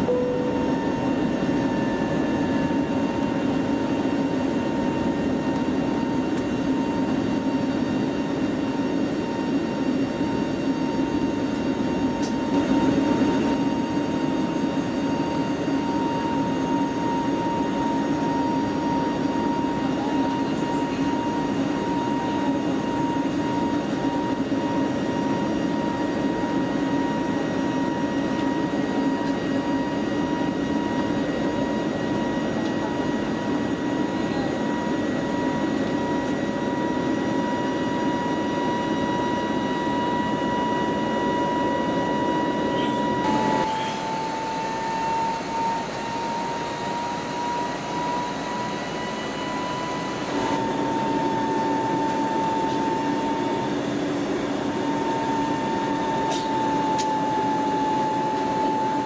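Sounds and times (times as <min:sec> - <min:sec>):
jet engine rumble in cabin: 0:00.0 - 0:59.0
steady whine: 0:00.0 - 0:59.0.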